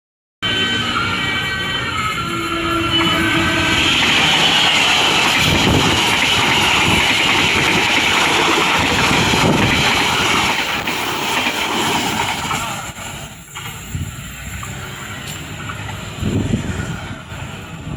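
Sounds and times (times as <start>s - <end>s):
train wheels rumbling on rails: 0.4s - 17.9s.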